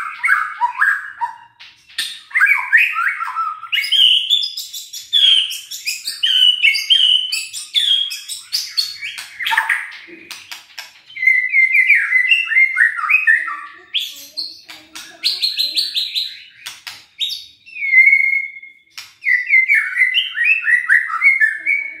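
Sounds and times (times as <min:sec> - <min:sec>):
bird singing whistled notes: 0:00.0 - 0:10.0, 0:11.1 - 0:22.0.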